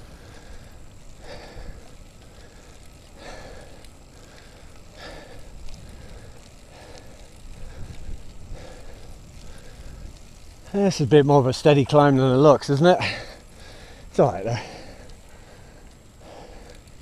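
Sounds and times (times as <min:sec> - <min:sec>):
person breathing hard: 0:00.0 - 0:10.2, 0:13.0 - 0:16.9
steady low rumble: 0:00.0 - 0:17.0.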